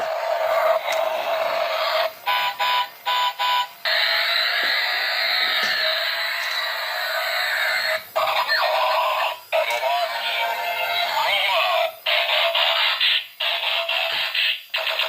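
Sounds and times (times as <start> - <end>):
tinny electronic toy music: 0.0 - 15.0.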